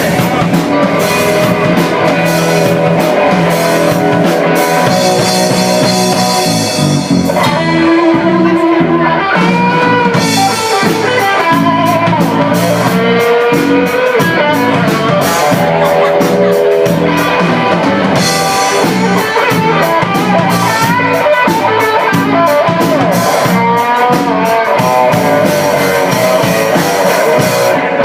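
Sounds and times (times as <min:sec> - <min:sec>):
drum kit: 0:00.0 - 0:28.0
electric guitar lines: 0:00.0 - 0:28.0.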